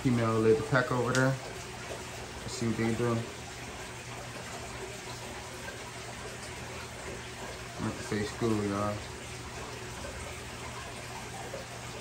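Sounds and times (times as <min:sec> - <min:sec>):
aquarium water rushing: 0:00.0 - 0:12.0.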